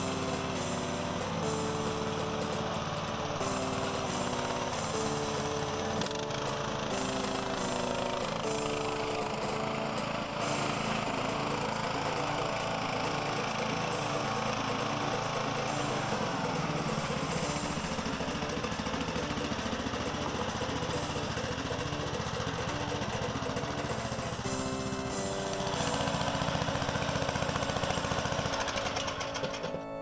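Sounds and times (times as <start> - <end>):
lawn tractor engine running: 0.0 - 30.0.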